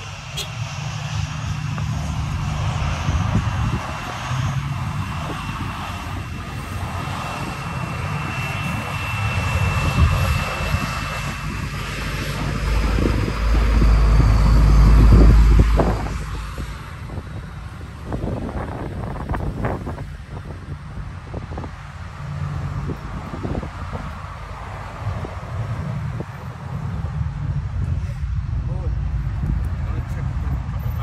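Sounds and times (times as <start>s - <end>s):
deep low rumble: 0.0s - 31.0s
jet engines roaring: 0.0s - 31.0s.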